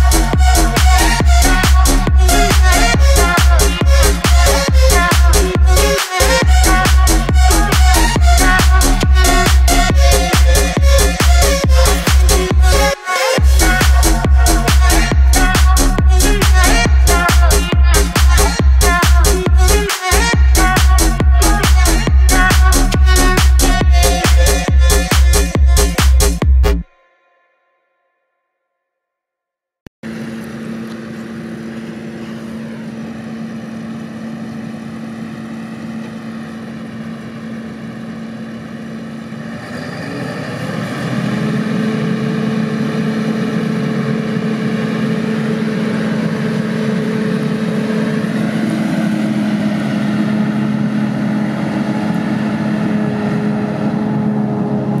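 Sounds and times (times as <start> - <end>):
harvester engine humming: 0.0 - 26.8, 30.0 - 55.0.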